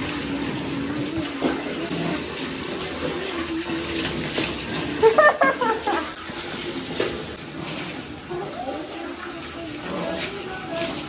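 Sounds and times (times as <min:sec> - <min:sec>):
water splashing on tiled floor: 0:00.0 - 0:11.0.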